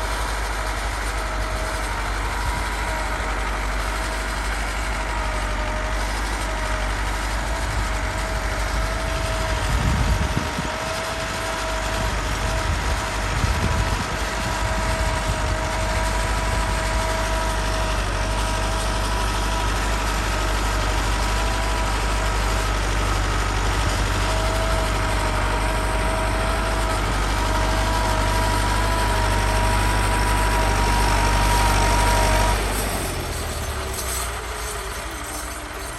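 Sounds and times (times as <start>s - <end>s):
tractor diesel engine rumbling: 0.0s - 35.9s.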